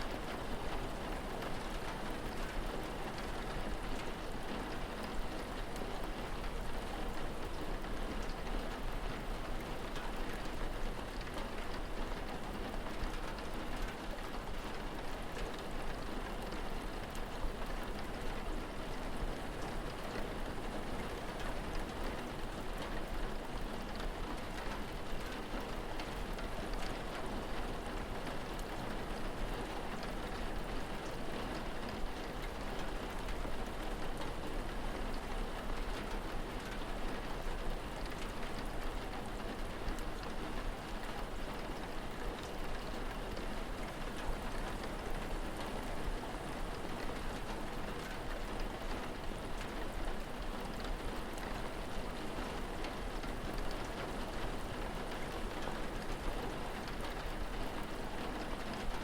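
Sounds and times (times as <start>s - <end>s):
rain falling on surfaces: 0.0s - 59.0s.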